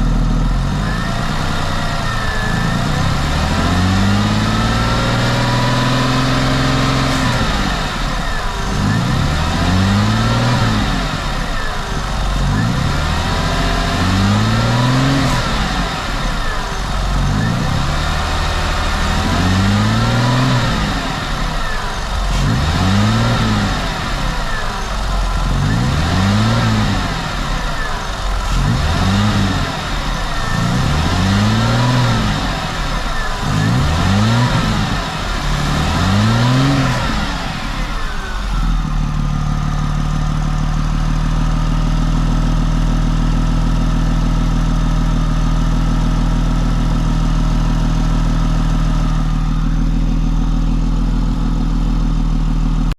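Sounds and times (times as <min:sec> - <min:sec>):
car engine idling: 0:00.0 - 0:52.9
car engine revving: 0:00.0 - 0:52.9.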